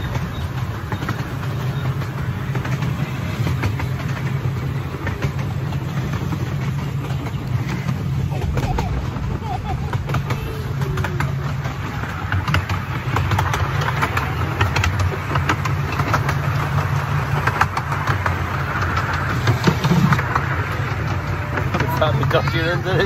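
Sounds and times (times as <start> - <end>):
clicks and rattles of wheels: 0.0 - 23.0
miniature train rumbling on track: 0.0 - 23.0.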